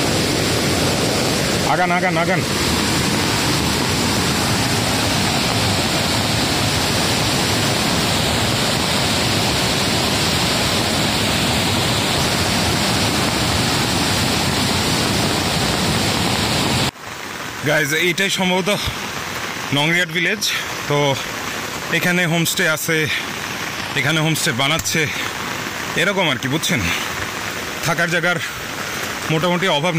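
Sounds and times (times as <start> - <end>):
river rushing over rocks: 0.0 - 29.9.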